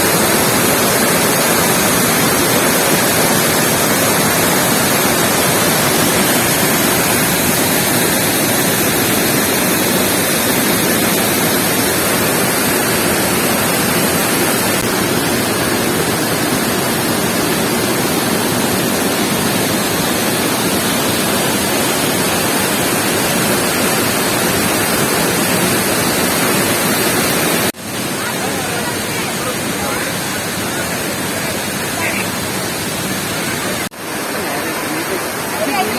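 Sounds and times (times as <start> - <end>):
waterfall rushing onto rocks: 0.0 - 35.9.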